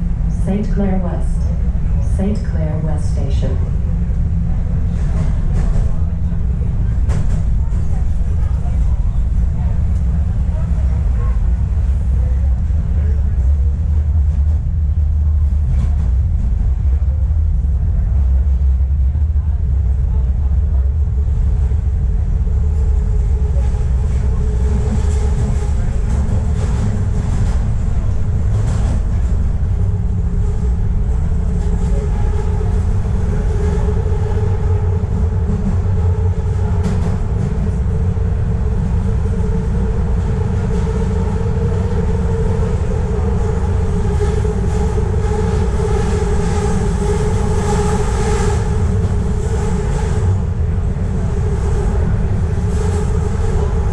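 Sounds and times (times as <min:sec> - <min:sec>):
subway train rumble: 0:00.0 - 0:53.9.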